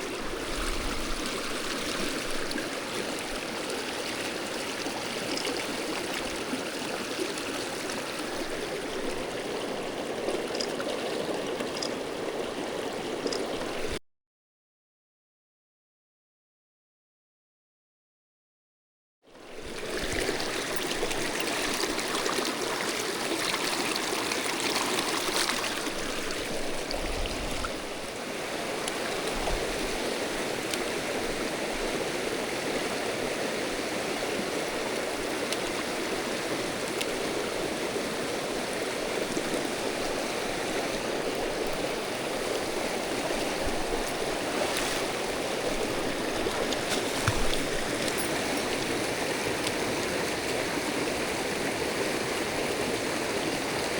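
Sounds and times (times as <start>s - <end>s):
water rushing over rocks: 0.0s - 14.0s, 19.6s - 53.9s.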